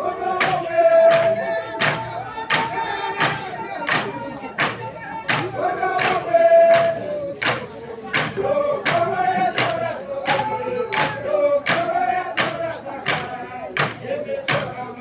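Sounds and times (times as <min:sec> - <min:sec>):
drums beating: 0:00.0 - 0:15.0
group of voices singing: 0:00.0 - 0:15.0.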